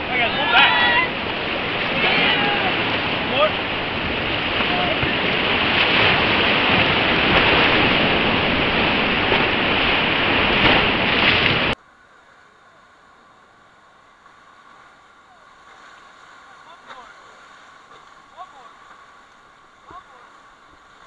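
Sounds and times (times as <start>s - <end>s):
muffled rush of water: 0.0s - 21.0s
whitewater rapids rushing: 0.0s - 21.0s.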